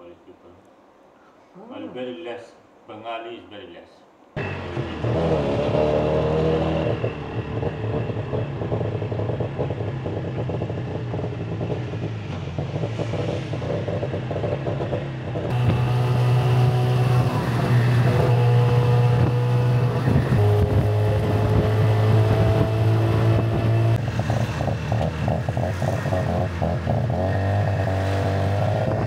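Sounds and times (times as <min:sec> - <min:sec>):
three-wheeler engine running: 0:04.4 - 0:12.8, 0:13.6 - 0:29.0
road and wind noise: 0:04.4 - 0:29.0.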